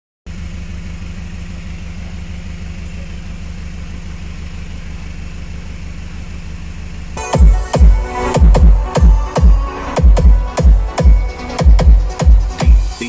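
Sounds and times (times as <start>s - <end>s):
engine idling: 0.2s - 13.0s.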